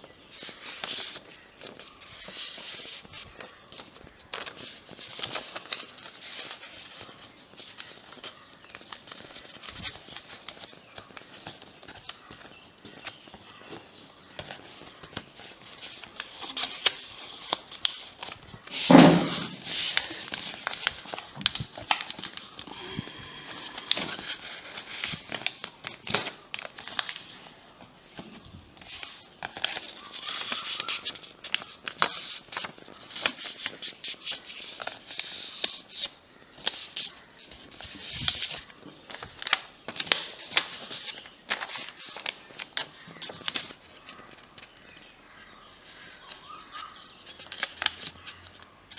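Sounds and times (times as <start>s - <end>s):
paper crinkling and rustling: 0.0s - 48.9s.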